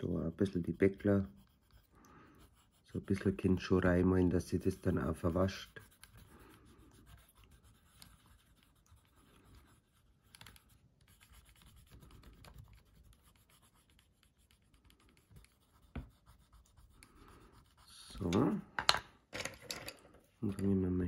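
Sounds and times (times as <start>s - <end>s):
pencil scratching on wood: 0.0s - 18.6s.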